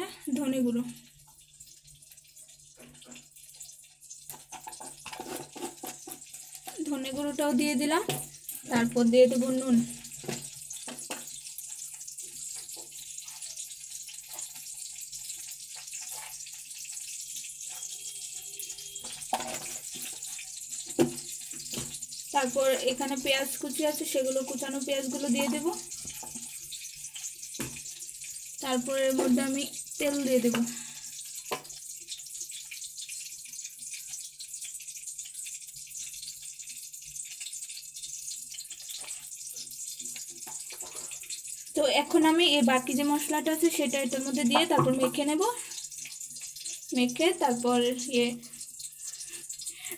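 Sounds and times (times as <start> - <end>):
water running from tap: 0.0 - 49.9.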